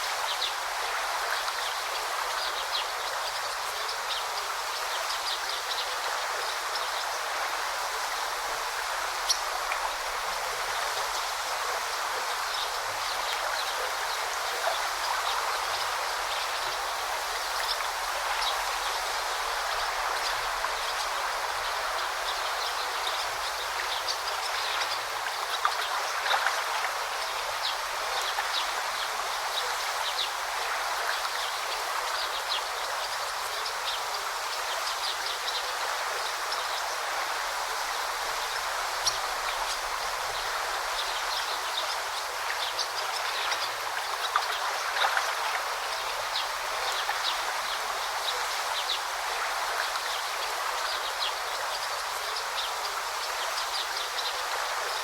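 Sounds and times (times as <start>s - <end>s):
river babbling: 0.0s - 55.0s.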